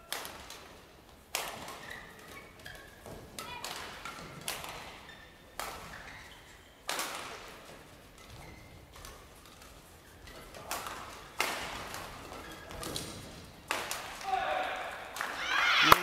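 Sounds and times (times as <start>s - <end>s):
court shoes squeaking: 0.0s - 16.0s
rackets striking shuttlecock: 0.1s - 14.4s.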